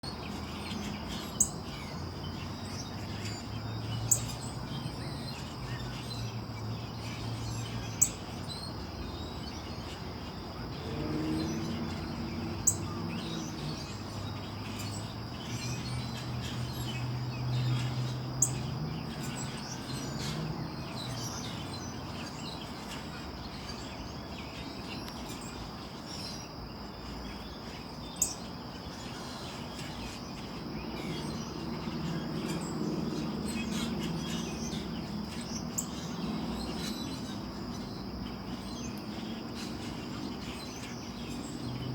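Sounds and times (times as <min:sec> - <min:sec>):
high insect drone: 0:00.0 - 0:41.9.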